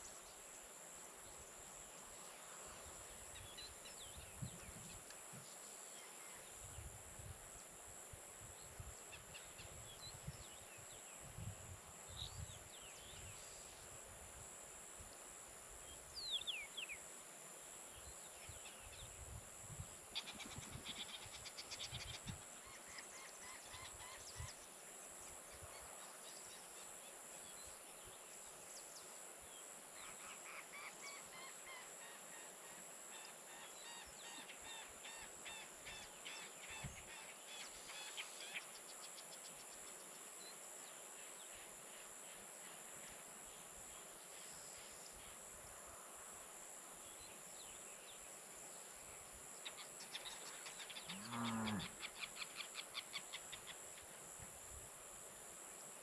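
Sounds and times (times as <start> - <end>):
insect chorus drone: 0.0 - 56.0.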